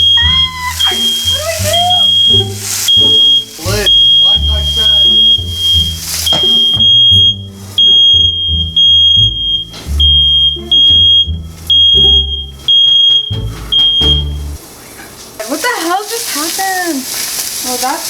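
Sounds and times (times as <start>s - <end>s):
smoke alarm beeping: 0.0s - 14.6s.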